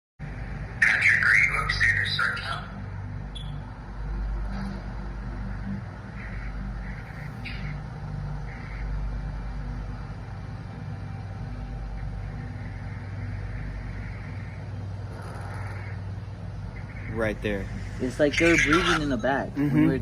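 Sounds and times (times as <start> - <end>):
steady low hum: 0.2 - 20.0.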